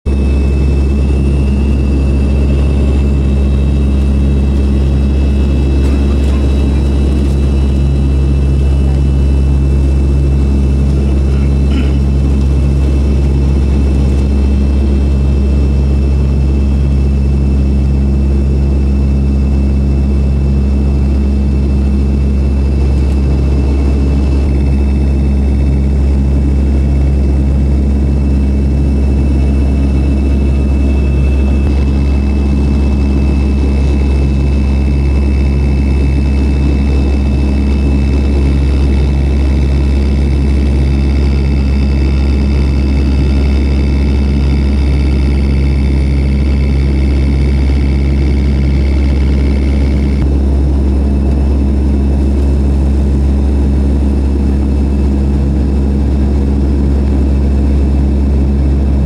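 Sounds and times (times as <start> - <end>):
aircraft engines droning: 0.1 - 59.0.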